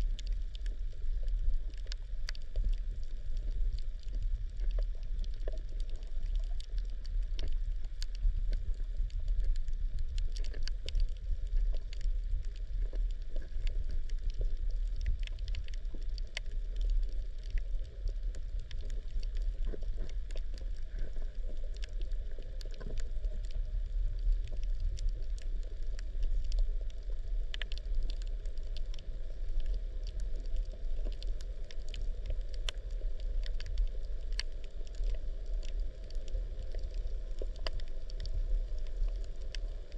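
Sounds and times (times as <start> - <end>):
crackling clicks from reef: 0.0 - 39.9
underwater water rumble: 0.0 - 39.9.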